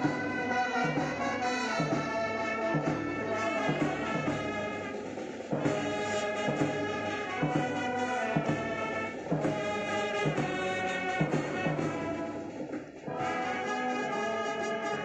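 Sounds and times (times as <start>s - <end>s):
brass band playing a march: 0.0s - 15.0s.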